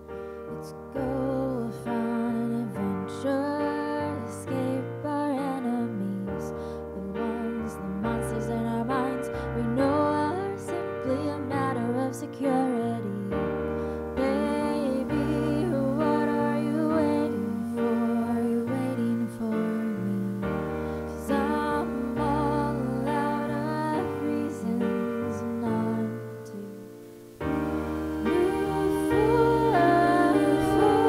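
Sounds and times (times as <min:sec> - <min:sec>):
slow piano chords: 0:00.0 - 0:31.0
woman singing: 0:00.5 - 0:31.0.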